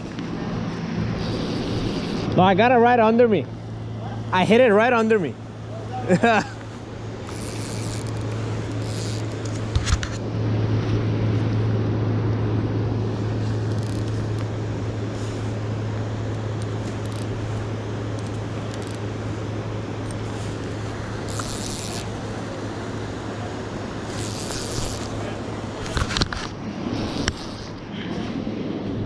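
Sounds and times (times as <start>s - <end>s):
river water rushing: 3.4s - 29.0s.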